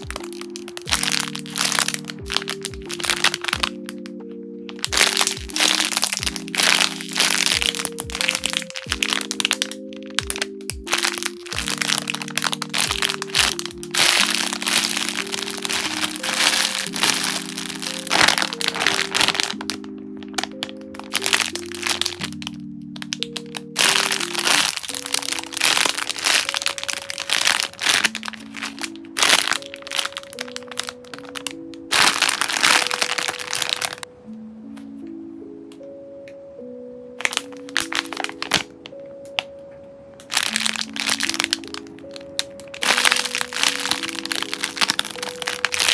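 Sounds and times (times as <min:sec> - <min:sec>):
plastic bags crinkling: 0:00.0 - 0:34.1, 0:37.2 - 0:39.0, 0:40.2 - 0:45.9
soft background music: 0:00.0 - 0:45.9.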